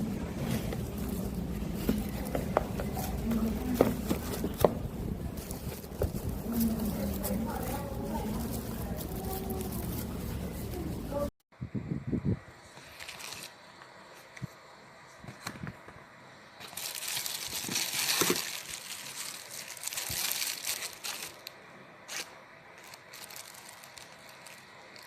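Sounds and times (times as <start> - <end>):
packaging crinkling and rustling: 0.0 - 11.3, 12.8 - 13.9, 16.6 - 25.0.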